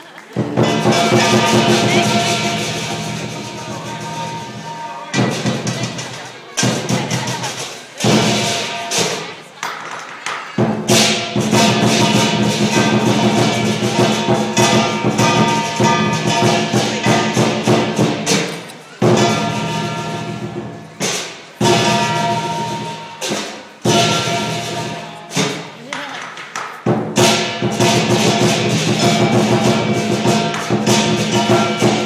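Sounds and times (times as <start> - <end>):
drum beating: 0.0 - 9.4, 10.6 - 32.0
cymbals clashing: 0.5 - 9.5, 10.6 - 32.0.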